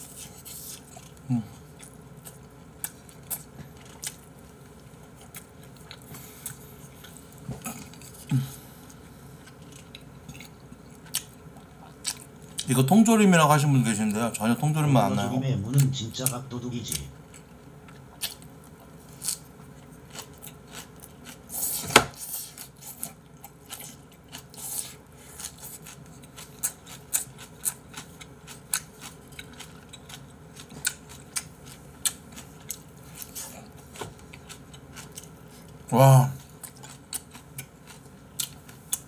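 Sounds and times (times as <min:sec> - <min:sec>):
man chewing food: 0:00.0 - 0:12.7, 0:15.7 - 0:39.0.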